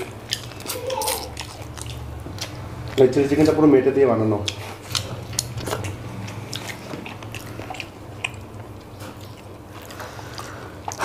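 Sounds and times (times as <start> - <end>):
chewing and mouth smacking: 0.0 - 3.3, 4.4 - 11.0.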